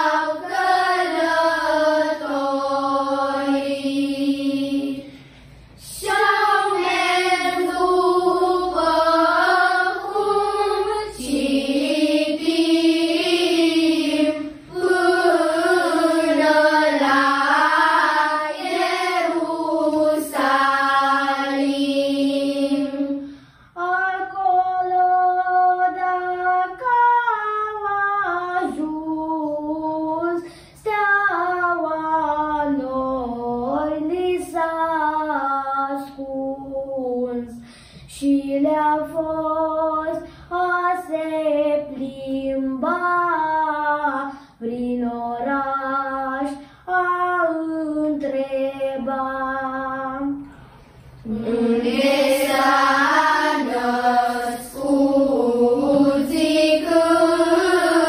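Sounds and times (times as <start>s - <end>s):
children singing a carol: 0.0s - 50.4s, 51.2s - 58.0s.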